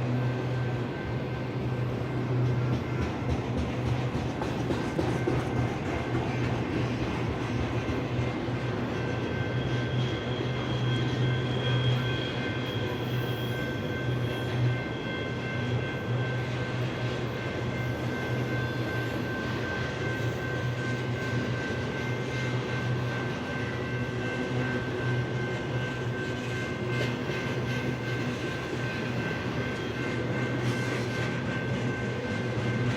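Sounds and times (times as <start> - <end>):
freight train rumbling past: 0.0 - 32.9.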